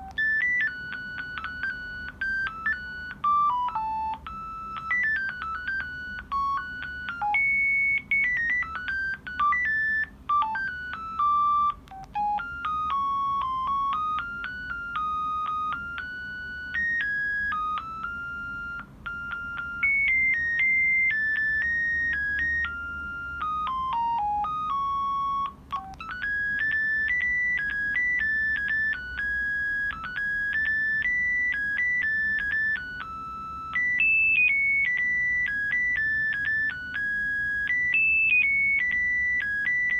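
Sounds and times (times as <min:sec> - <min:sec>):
phone ringtone melody: 0:00.0 - 0:39.9.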